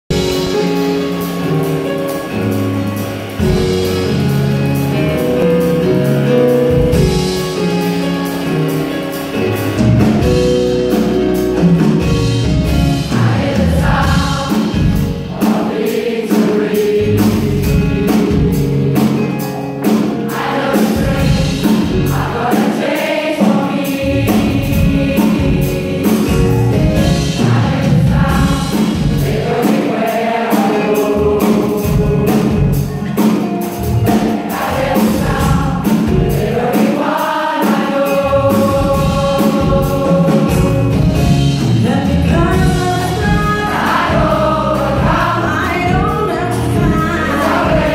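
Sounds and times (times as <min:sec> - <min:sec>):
band with drums bass and keyboards: 0:00.1 - 0:47.9
gospel choir singing: 0:00.1 - 0:47.9.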